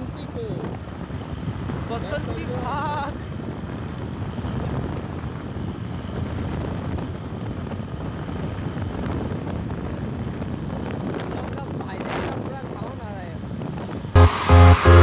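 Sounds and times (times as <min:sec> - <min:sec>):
wind on microphone: 0:00.0 - 0:14.2
motorcycle engine rumble: 0:00.0 - 0:15.0.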